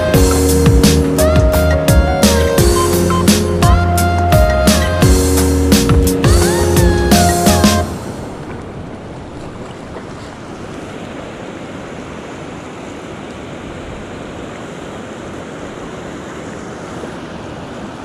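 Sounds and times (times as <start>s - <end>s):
mountain stream rushing: 0.0s - 18.0s.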